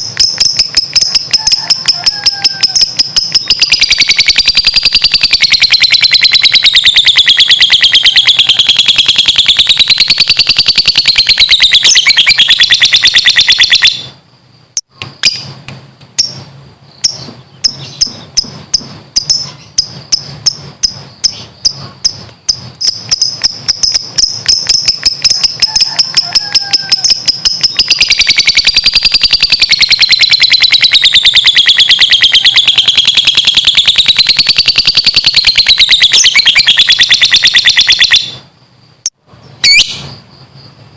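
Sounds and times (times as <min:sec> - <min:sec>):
lovebird chirping trill: 0:00.0 - 0:14.2, 0:16.2 - 0:38.4.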